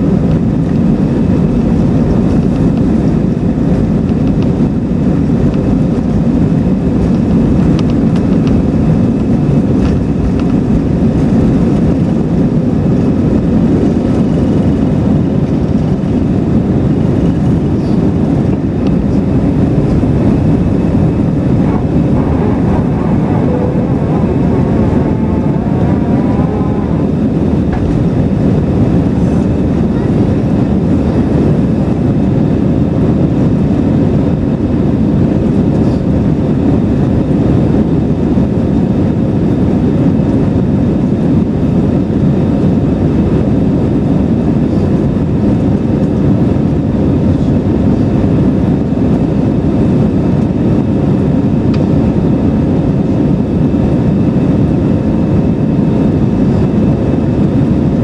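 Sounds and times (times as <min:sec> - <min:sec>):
jet engines at takeoff thrust: 0:00.0 - 0:58.0
rushing airflow: 0:00.0 - 0:58.0.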